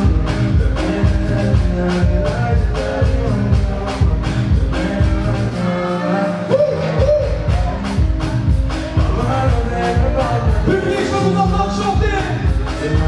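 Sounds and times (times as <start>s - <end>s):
loud music with steady beat: 0.0s - 13.0s
person singing: 0.0s - 13.0s.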